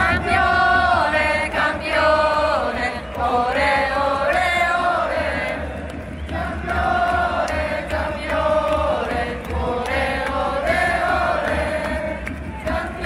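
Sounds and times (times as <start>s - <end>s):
crowd singing a chant: 0.0s - 13.0s.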